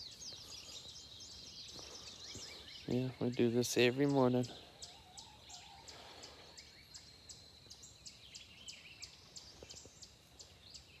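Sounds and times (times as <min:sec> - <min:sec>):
soft bird calls: 0:00.0 - 0:11.0.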